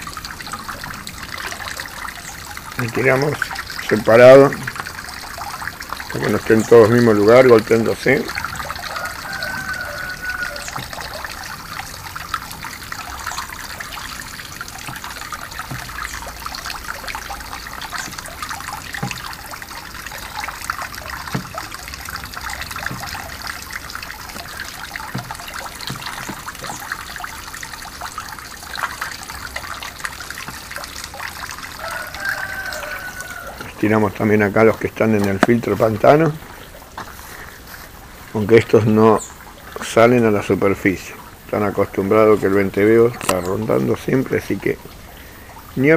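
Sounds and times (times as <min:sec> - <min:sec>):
water trickling into pond: 0:00.0 - 0:45.9.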